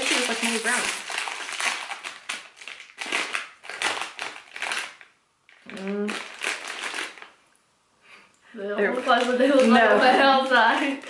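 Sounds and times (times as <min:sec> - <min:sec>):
plastic pouch crinkling: 0:00.0 - 0:07.4, 0:08.8 - 0:11.0.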